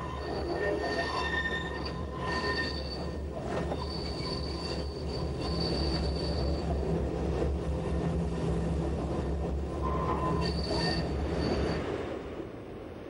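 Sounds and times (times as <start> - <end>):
train wheels squealing on rails: 0.0 - 12.2
train running rumble: 0.0 - 13.0.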